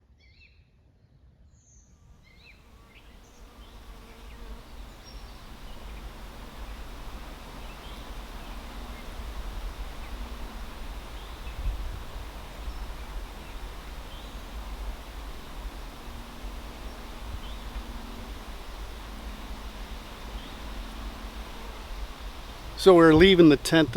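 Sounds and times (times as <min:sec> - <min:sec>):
bees buzzing in flight: 0:02.2 - 0:23.9.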